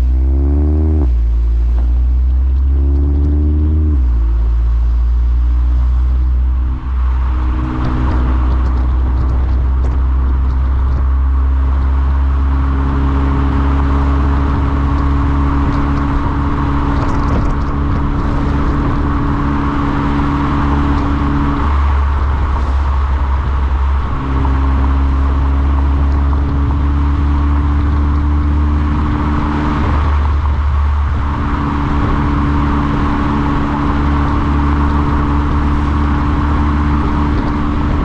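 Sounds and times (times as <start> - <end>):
car engine droning: 0.0 - 38.0.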